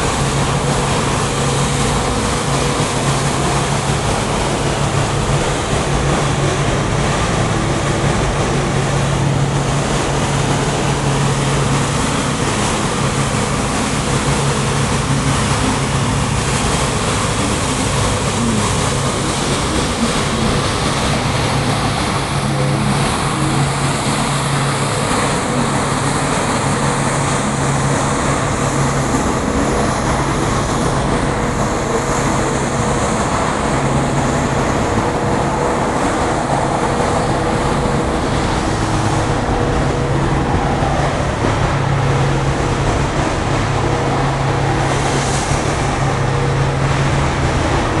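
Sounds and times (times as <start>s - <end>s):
city street noise: 0.0s - 48.0s
vehicle engine hum: 0.0s - 48.0s.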